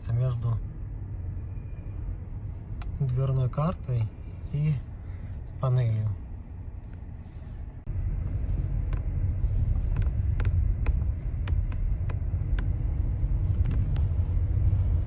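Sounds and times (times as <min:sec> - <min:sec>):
low road rumble: 0:00.0 - 0:15.0.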